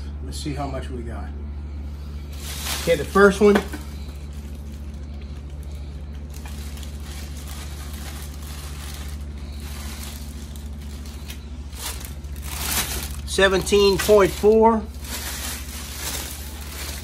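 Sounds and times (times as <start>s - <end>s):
low mechanical hum: 0.0s - 17.0s
plastic bag crinkling: 2.3s - 17.0s.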